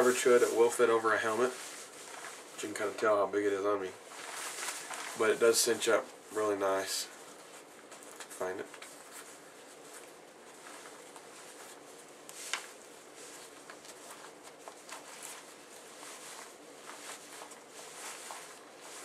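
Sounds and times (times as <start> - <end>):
jacket fabric rustling: 0.0 - 19.0.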